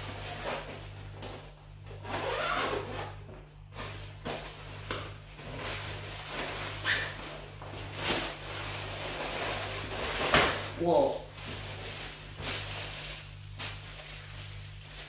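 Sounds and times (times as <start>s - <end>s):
low steady hum: 0.0s - 15.0s
rustling and rubbing of equipment: 1.9s - 10.7s, 11.3s - 15.0s.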